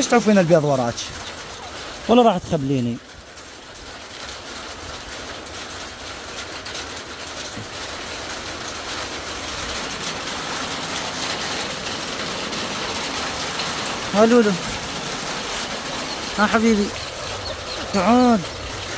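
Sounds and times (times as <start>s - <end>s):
steady rain hiss and patter: 0.0s - 18.9s.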